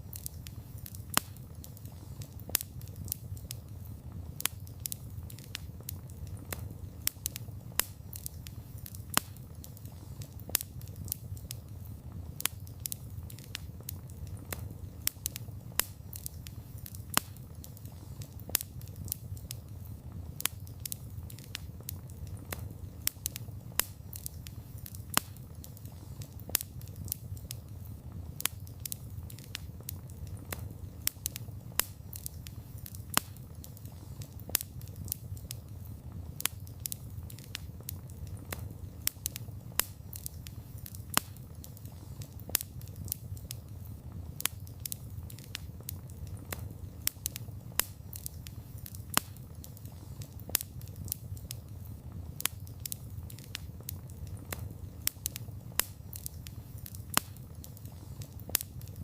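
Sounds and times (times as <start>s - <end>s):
campfire flame rumbling: 0.0s - 59.0s
fire crackling and popping: 0.0s - 59.0s.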